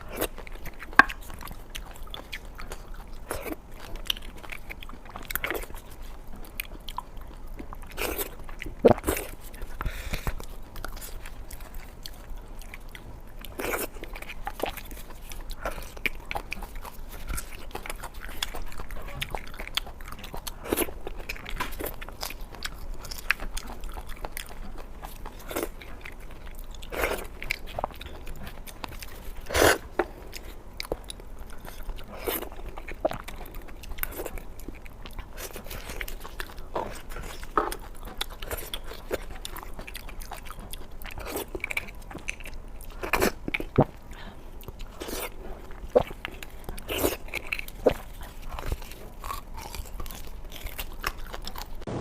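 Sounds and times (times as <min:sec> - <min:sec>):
person biting and chewing food: 0:00.0 - 0:52.0.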